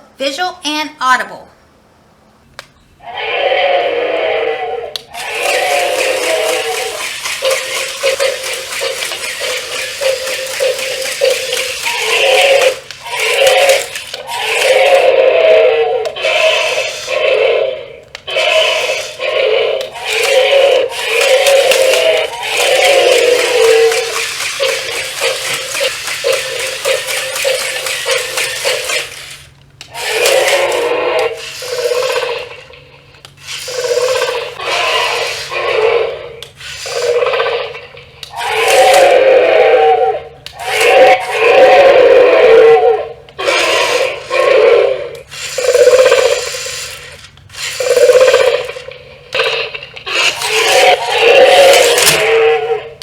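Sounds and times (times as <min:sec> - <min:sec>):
toy dinosaur roar sound effects: 0:03.0 - 0:53.0.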